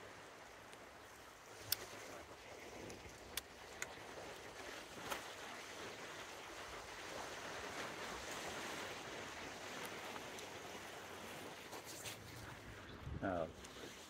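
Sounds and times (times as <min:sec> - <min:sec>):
waves washing onto stony shore: 0:00.0 - 0:12.8.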